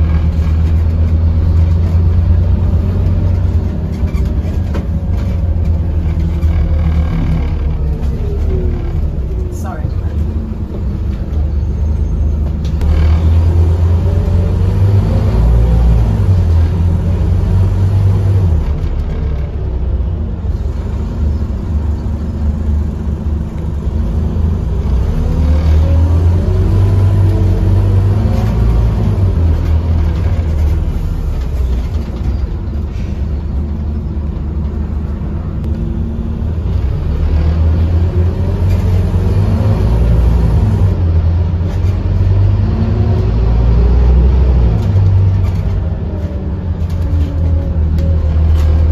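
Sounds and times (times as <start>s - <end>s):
bus diesel engine rumble: 0.0s - 48.9s
rising engine whine: 0.0s - 48.9s.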